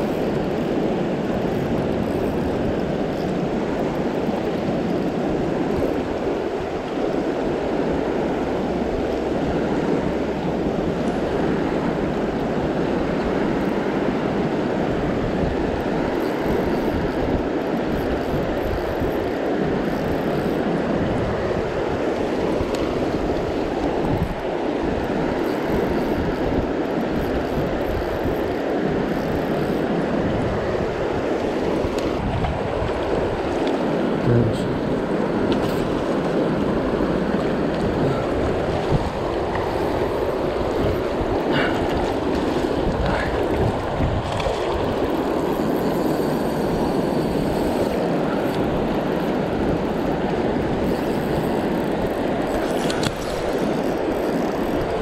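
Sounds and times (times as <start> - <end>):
river current rushing: 0.0 - 55.0.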